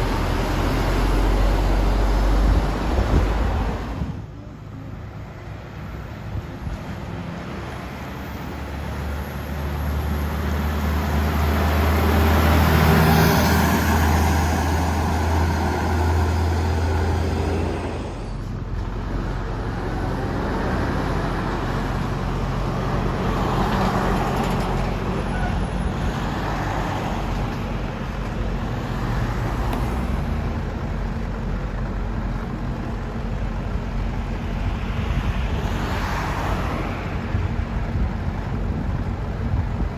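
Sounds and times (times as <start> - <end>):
diesel trucks driving past: 0.0 - 39.9
vehicles passing: 0.0 - 39.9.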